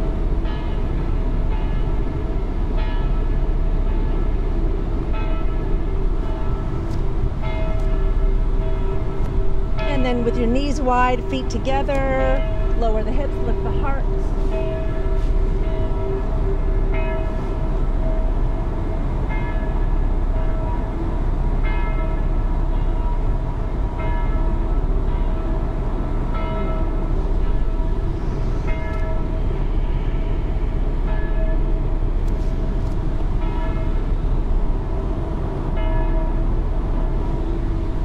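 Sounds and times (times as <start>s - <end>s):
distant church bells ringing: 0.0s - 38.0s
steady low rumble: 0.0s - 38.0s.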